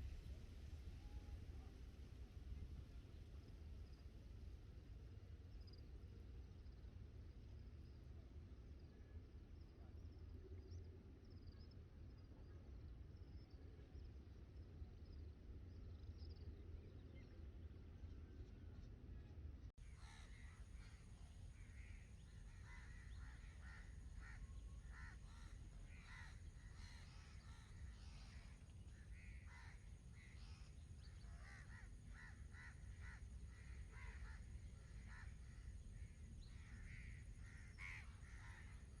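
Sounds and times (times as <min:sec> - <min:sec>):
faint low rumble: 0:00.0 - 0:39.0.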